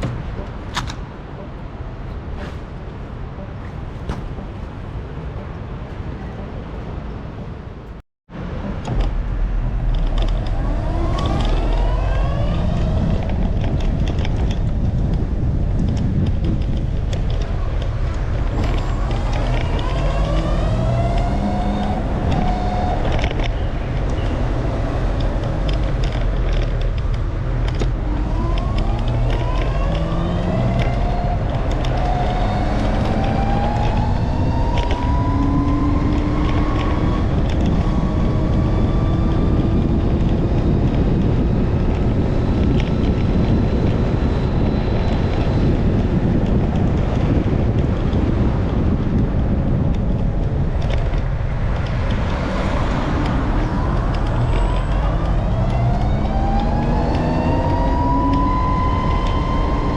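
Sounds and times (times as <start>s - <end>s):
wind rumbling on microphone: 0.0s - 59.9s
vehicle engine speeding up: 8.4s - 59.9s.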